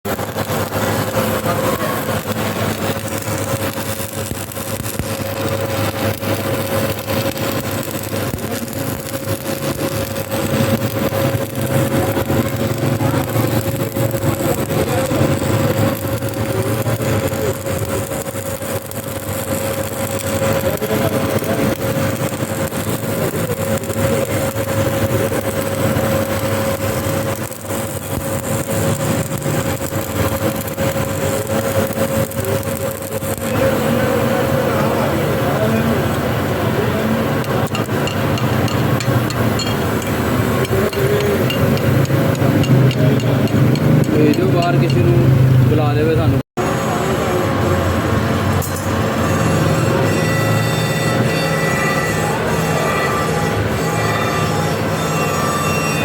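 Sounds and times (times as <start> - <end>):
machine whine over low rumble: 0.1 - 56.0.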